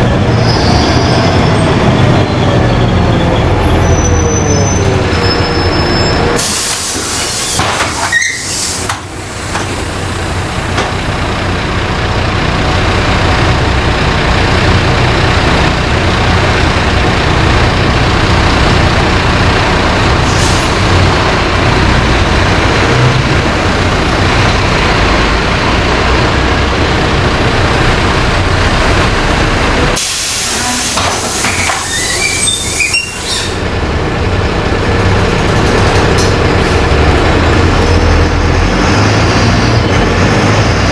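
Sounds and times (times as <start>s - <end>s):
bus engine drone: 0.0s - 40.9s.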